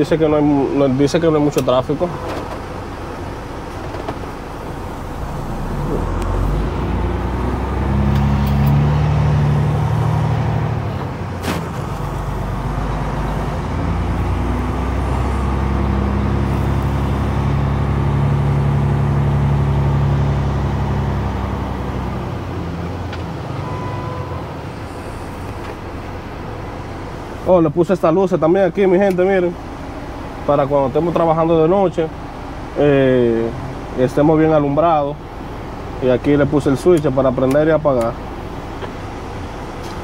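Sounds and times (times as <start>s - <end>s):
truck diesel engine accelerating: 0.0s - 40.0s.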